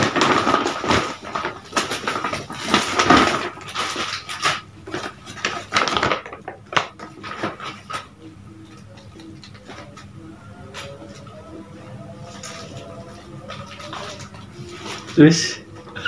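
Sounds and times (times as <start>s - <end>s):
paper bag crumpling: 0.0s - 8.2s, 10.6s - 16.0s.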